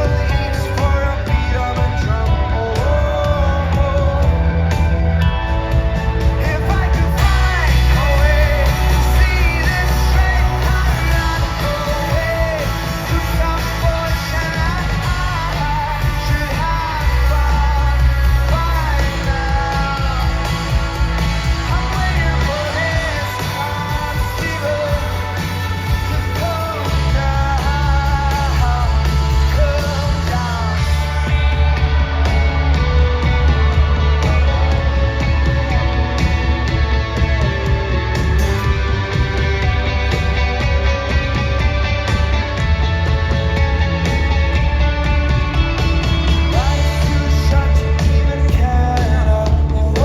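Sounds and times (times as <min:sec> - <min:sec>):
person singing: 0:00.0 - 0:05.5, 0:06.1 - 0:42.6, 0:46.1 - 0:50.0
rock band playing: 0:00.0 - 0:50.0.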